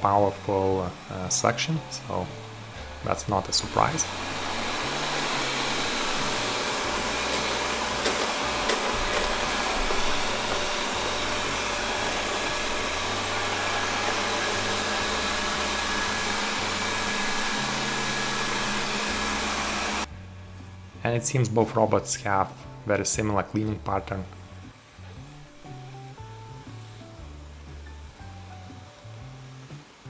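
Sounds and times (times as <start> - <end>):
robot vacuum fan noise: 0.0 - 30.0.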